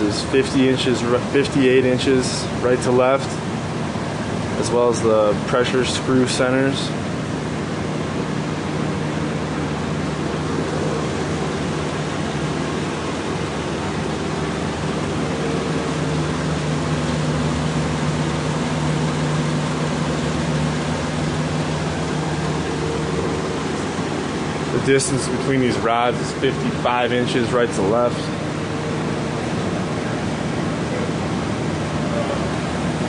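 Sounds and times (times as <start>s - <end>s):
industrial hum and rushing noise: 0.0s - 33.0s.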